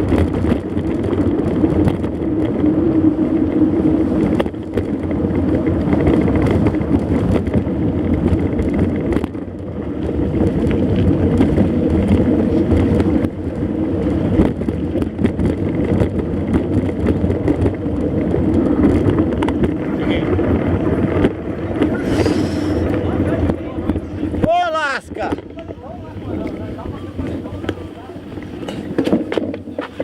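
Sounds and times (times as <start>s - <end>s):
bike knocks and rattles: 0.0s - 22.1s, 22.8s - 30.0s
tyre rumble and wind on microphone: 0.0s - 30.0s.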